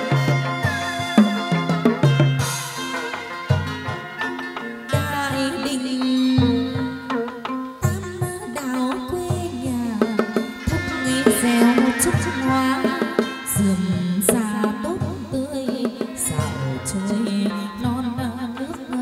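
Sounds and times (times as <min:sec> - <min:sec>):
percussion strikes: 0:00.0 - 0:19.0
plucked strings: 0:00.0 - 0:19.0.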